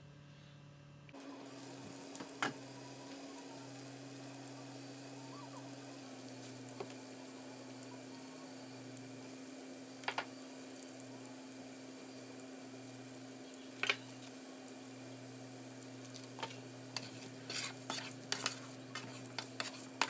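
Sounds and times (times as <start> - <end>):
potato slices sizzling in a pan: 1.1 - 20.0.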